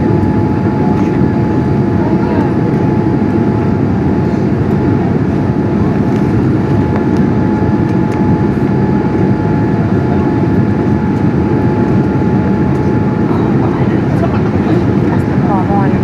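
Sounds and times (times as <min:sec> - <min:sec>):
jet engine roar in cabin: 0:00.0 - 0:16.0
thin steady whine: 0:00.0 - 0:16.0.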